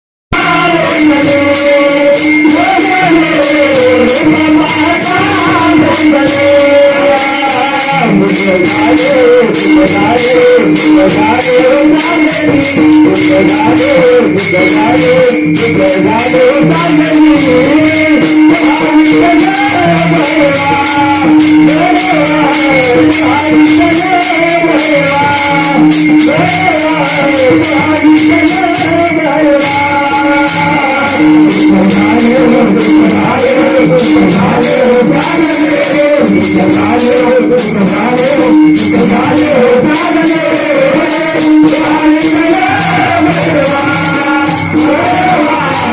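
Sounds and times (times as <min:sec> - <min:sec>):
small hand cymbals striking: 0:00.3 - 0:45.9
wavering devotional melody: 0:00.3 - 0:45.9.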